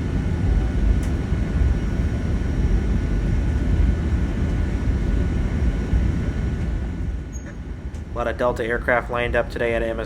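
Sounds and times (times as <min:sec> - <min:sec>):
aircraft engines rumbling: 0:00.0 - 0:10.0.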